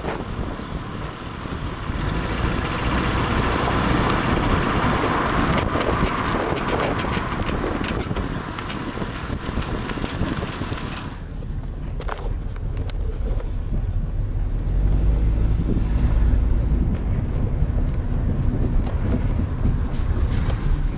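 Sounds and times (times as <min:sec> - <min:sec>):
car tyre and road noise: 0:00.0 - 0:20.9
wind rushing over microphone: 0:00.0 - 0:20.9.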